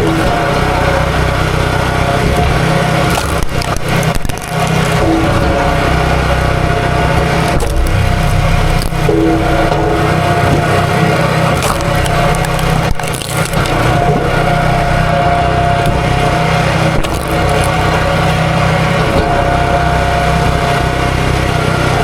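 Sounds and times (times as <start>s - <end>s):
small engine running under load: 0.0s - 22.0s
wood cracking and splintering: 1.9s - 21.6s.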